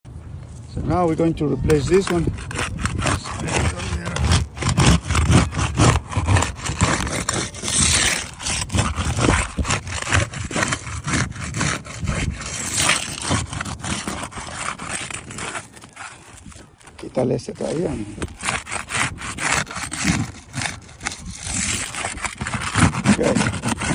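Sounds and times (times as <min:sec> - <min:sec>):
tool scraping roof shingles: 0:01.6 - 0:23.9.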